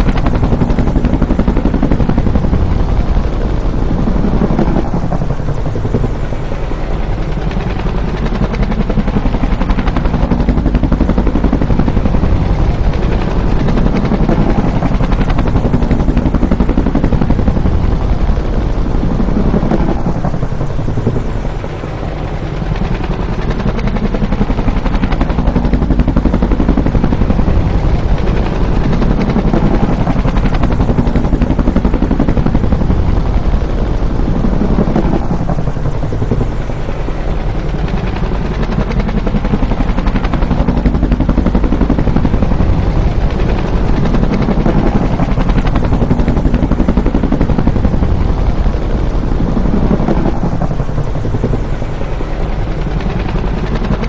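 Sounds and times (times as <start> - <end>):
helicopter rotor thumping: 0.0 - 54.0
turbine noise: 0.0 - 54.0.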